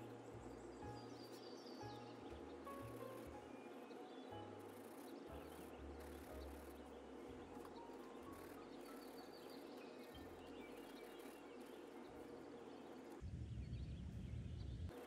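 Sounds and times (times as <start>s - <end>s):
soft background music: 0.0s - 13.6s.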